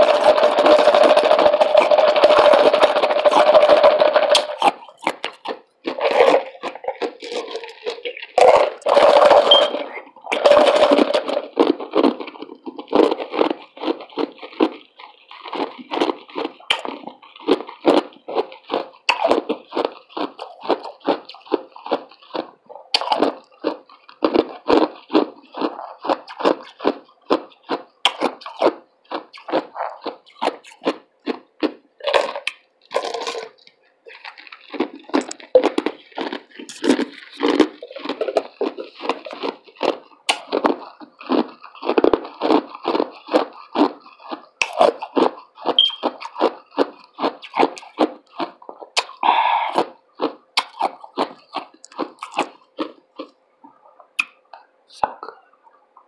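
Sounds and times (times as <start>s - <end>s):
ice crunching between teeth: 0.0s - 55.4s.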